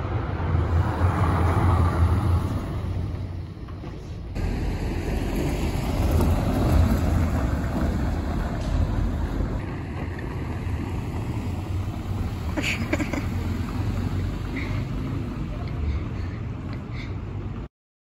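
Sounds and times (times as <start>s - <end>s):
rumbling street noise: 0.0s - 17.7s.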